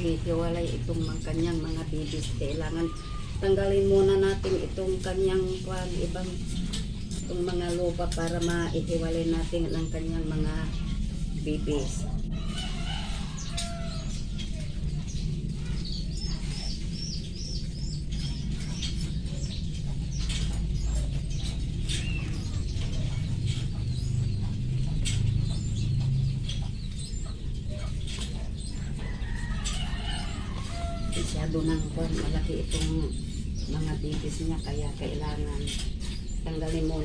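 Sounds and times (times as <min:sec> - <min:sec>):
bird chirping: 0:00.0 - 0:37.0
low rumble: 0:00.0 - 0:37.0.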